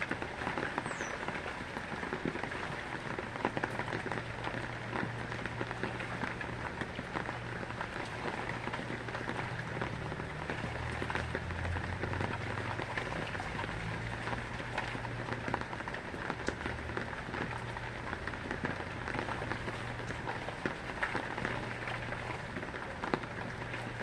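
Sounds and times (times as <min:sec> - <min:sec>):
rain ticking on hard surface: 0:00.0 - 0:24.0.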